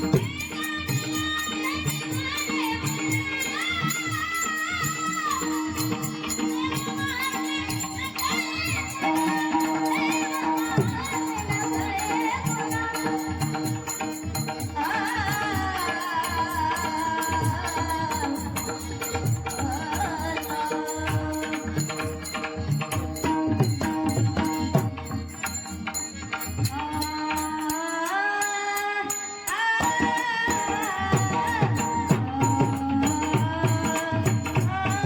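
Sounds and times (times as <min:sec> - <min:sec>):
hand drum: 0:00.0 - 0:27.9, 0:29.6 - 0:35.0
jingling percussion: 0:00.0 - 0:35.0
woman singing: 0:00.0 - 0:35.0.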